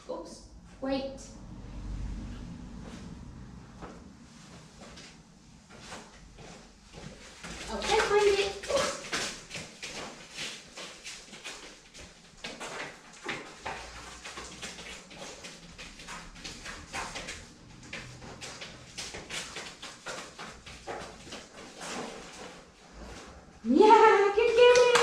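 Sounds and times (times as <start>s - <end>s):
dog paws on foam mats: 0.1s - 25.0s.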